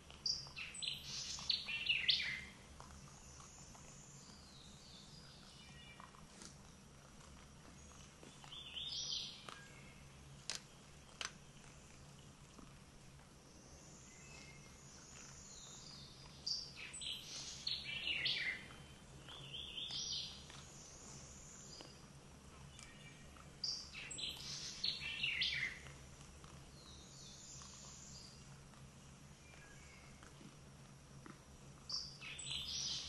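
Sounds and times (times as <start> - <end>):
faint low hum: 0.0 - 33.0
songbirds chirping: 0.0 - 33.0.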